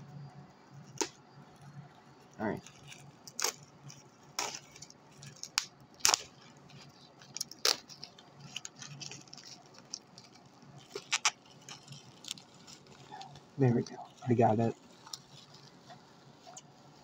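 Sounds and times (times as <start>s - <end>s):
packaging crackling: 2.4s - 17.0s.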